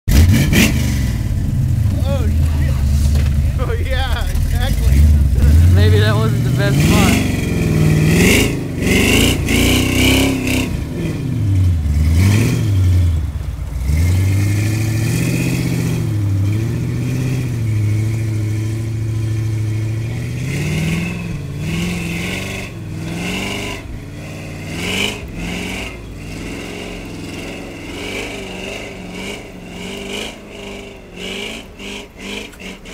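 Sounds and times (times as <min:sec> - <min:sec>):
truck engine revving: 0:00.1 - 0:32.9.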